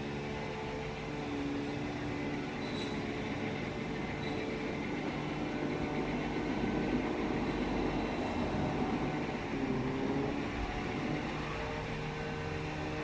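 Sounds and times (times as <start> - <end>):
distant turboprop plane droning: 0.0 - 13.0.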